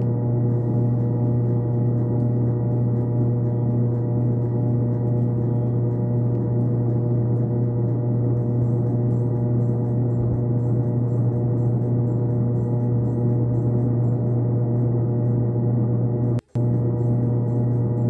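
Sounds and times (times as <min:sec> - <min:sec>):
drone of held tones: 0:00.0 - 0:18.0
strong low hum: 0:00.0 - 0:18.0.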